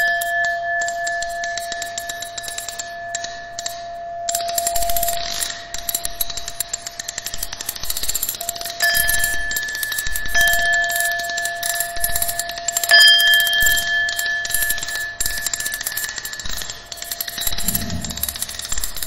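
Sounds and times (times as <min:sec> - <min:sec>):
ringing tones: 0:00.0 - 0:07.1, 0:07.9 - 0:19.0
crackle of clicks: 0:00.0 - 0:19.0.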